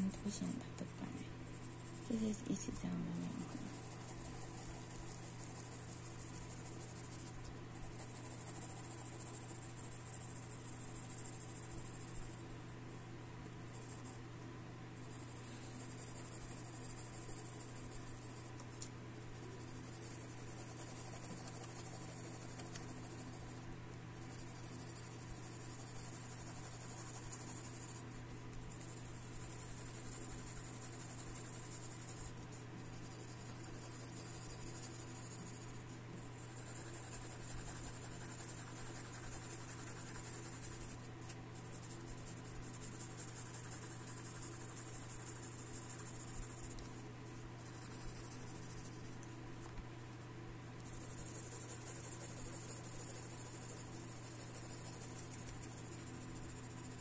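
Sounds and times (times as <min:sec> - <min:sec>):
pencil shading on paper: 0:00.0 - 0:12.5, 0:13.7 - 0:14.2, 0:15.0 - 0:18.6, 0:19.2 - 0:50.2, 0:50.8 - 0:57.0
steady low hum: 0:00.0 - 0:57.0.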